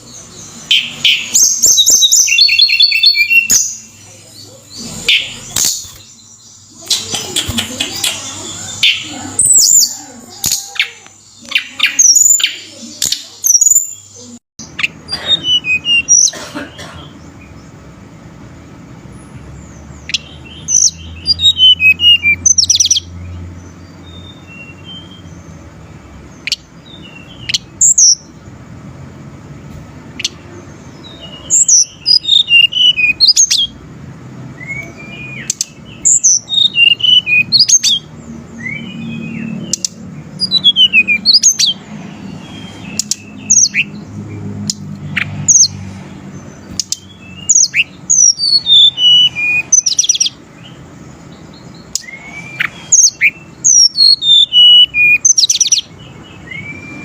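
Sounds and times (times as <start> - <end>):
bird chirps and trills: 0.0 - 57.0.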